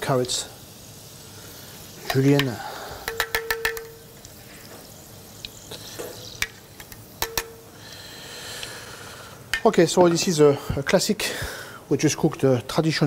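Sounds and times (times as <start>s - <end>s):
carrots sizzling in a pan: 0.0s - 10.9s.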